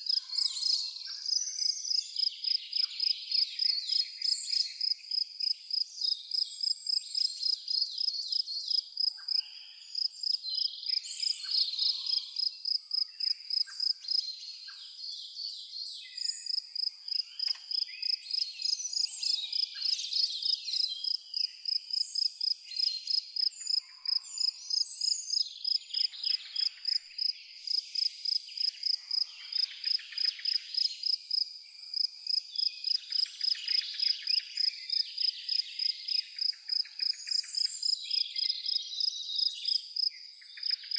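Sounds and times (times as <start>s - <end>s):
cricket chirping: 0.0s - 14.3s, 16.2s - 40.9s
birds calling and twittering: 0.0s - 40.9s.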